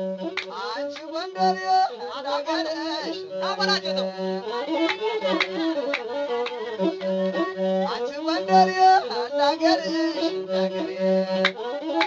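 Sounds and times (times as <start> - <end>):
bowed fiddle melody: 0.0 - 12.0.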